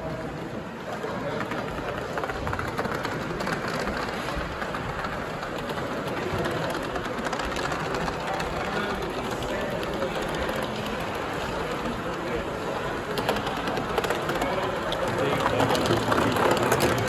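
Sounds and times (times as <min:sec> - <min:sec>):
wheels clattering on track: 0:00.9 - 0:17.0.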